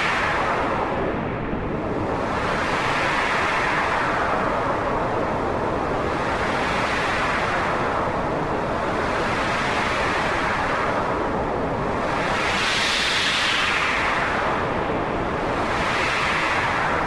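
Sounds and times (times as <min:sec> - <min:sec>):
wind blowing in gusts: 0:00.0 - 0:17.0.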